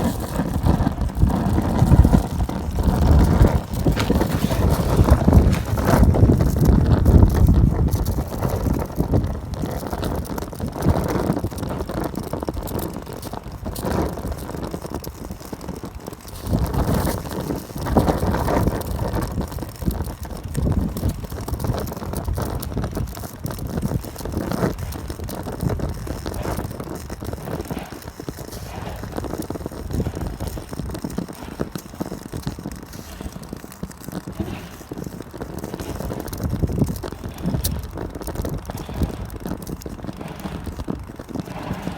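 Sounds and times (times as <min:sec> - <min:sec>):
stove flame rushing: 0:00.0 - 0:41.9
wind buffeting microphone: 0:00.0 - 0:41.9.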